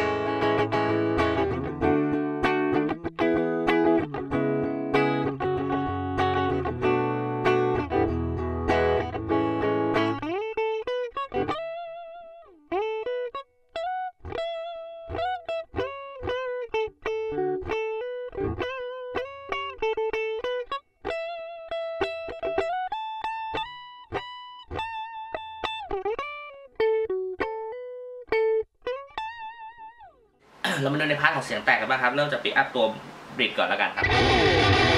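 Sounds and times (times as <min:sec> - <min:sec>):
clean electric guitar lead: 0:00.0 - 0:30.0, 0:34.0 - 0:34.9.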